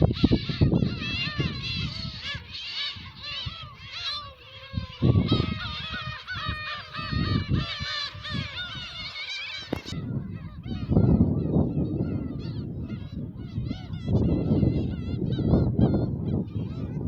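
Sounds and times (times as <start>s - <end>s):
gulls calling: 0.0s - 17.0s
wind buffeting microphone: 0.0s - 17.0s.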